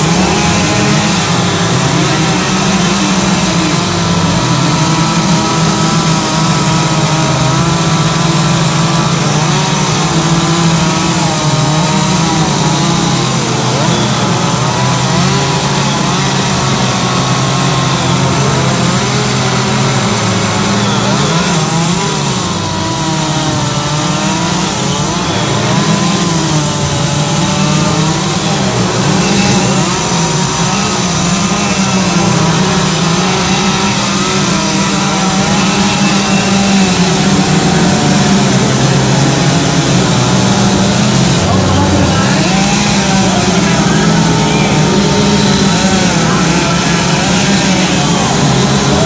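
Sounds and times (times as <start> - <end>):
chainsaws carving wood: 0.0 - 49.0.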